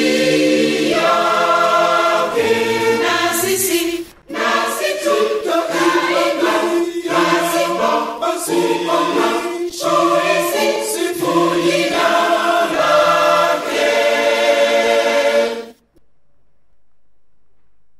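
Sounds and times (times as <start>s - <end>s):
choir singing a hymn: 0.0s - 15.8s.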